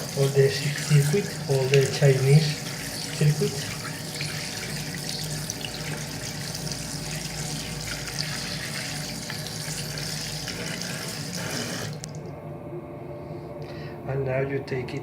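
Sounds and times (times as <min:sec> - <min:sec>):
tap water running into sink: 0:00.0 - 0:12.2.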